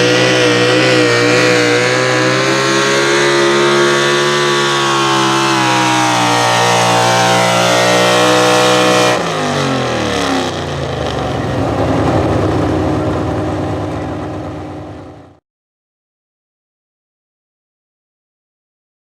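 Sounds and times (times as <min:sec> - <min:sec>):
truck engine revving high: 0:00.0 - 0:15.4.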